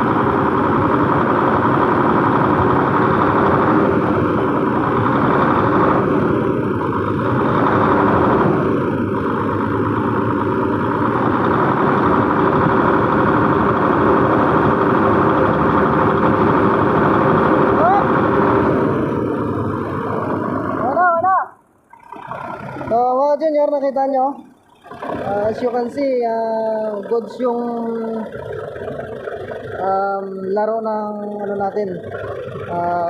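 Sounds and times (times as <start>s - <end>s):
diesel engine at raised revs: 0.0s - 33.0s
engine cooling fan turning: 0.0s - 33.0s.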